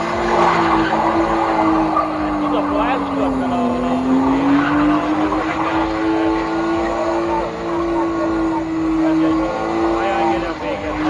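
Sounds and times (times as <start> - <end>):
car engine at high revs: 0.0 - 11.0
voices: 0.0 - 11.0.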